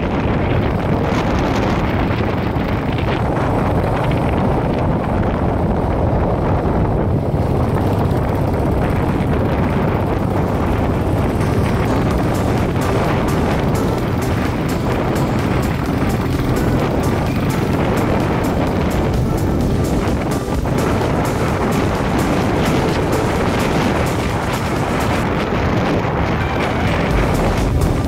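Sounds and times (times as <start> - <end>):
motorcycle riding: 0.0 - 28.0
wind on microphone: 0.0 - 28.0.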